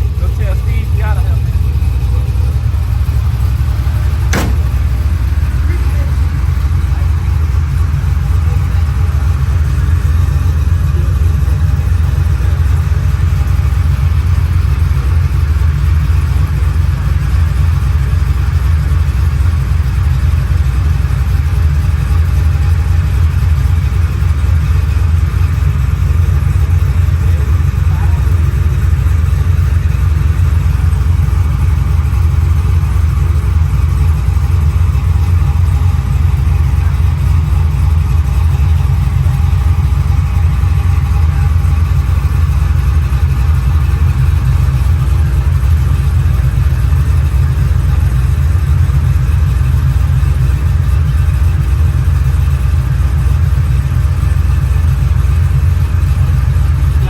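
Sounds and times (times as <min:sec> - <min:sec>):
engine low rumble: 0:00.0 - 0:57.0.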